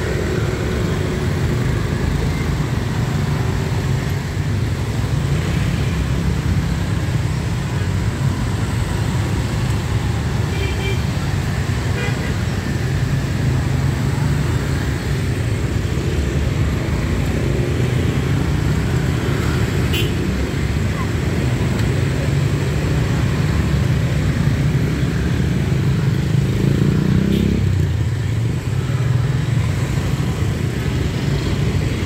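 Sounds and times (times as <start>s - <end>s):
motorbike and car traffic: 0.0s - 32.0s.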